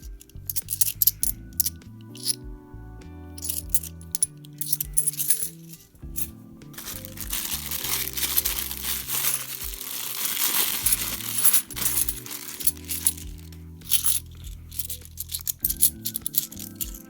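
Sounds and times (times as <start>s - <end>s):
coins clinking: 0.0s - 2.4s, 3.4s - 17.0s
background music: 0.0s - 17.0s.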